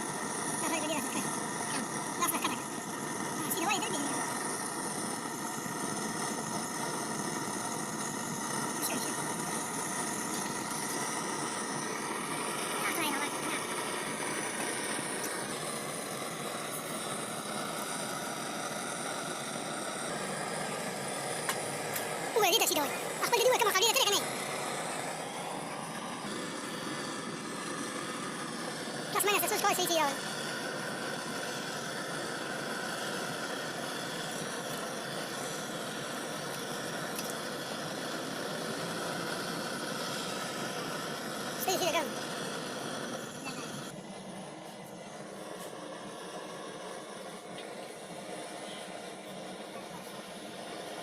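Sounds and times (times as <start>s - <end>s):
machine drone: 0.0s - 51.0s.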